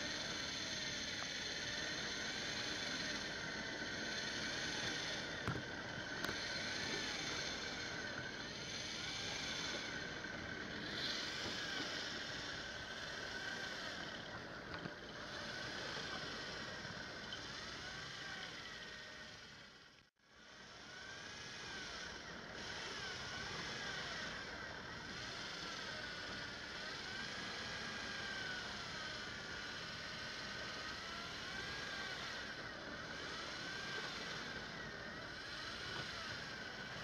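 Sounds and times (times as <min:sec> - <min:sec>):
fishing reel motor whining: 0:00.0 - 0:37.0.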